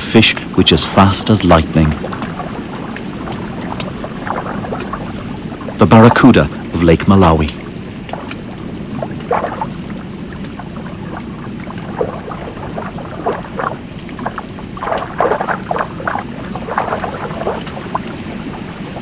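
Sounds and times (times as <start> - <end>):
underwater low rumble: 0.0 - 19.0
bubbling blips: 0.6 - 19.0.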